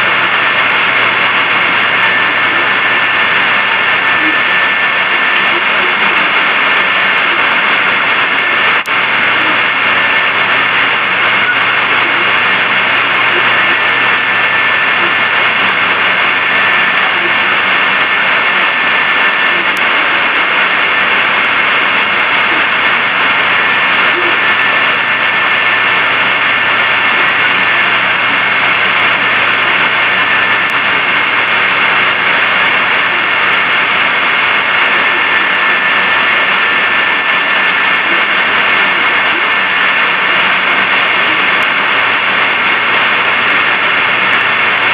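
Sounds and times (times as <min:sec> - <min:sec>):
loud filtered hiss: 0:00.0 - 0:44.9.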